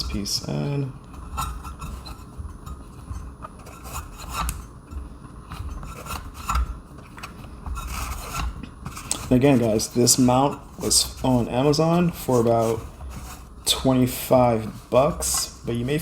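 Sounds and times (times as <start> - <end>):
rubbing handling noise: 0.0 - 16.0.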